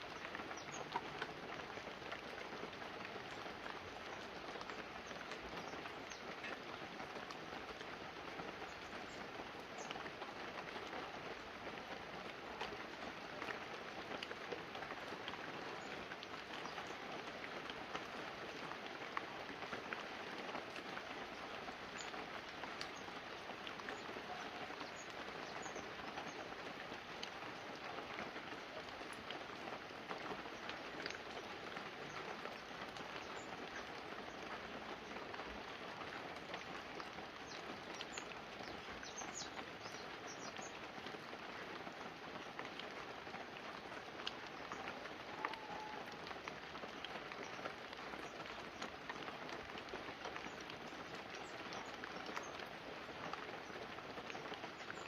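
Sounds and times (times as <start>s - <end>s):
light rain on leaves and roof: 0.0s - 55.0s.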